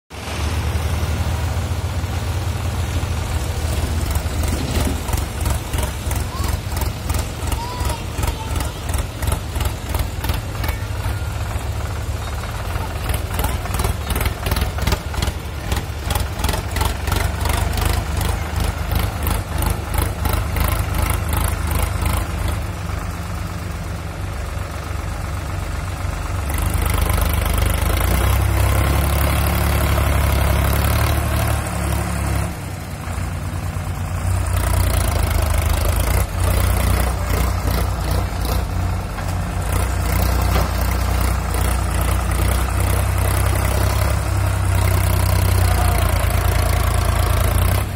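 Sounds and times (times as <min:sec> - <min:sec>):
tractor diesel engine chugging: 0:00.1 - 0:47.9.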